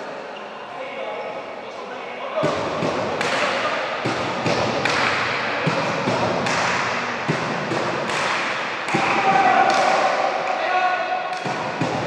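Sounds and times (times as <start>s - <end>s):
reverberant hall background noise: 0.0s - 12.0s.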